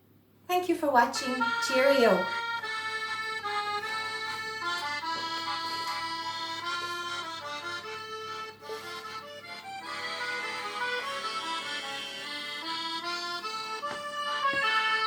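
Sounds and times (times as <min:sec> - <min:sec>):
accordion music: 0:01.1 - 0:15.0.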